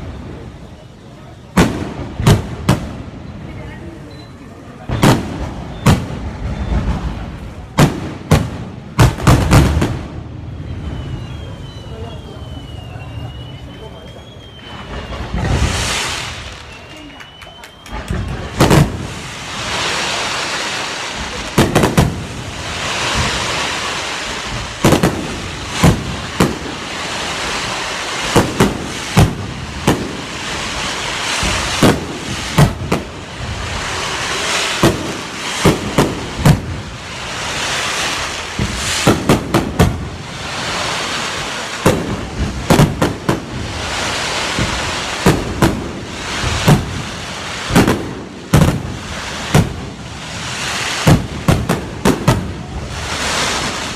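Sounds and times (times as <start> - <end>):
firework booms: 0.0 - 53.9.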